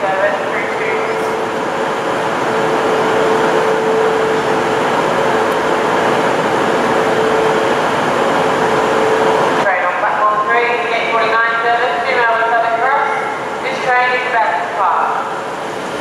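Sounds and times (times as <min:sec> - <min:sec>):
train drone with hum: 0:00.0 - 0:16.0.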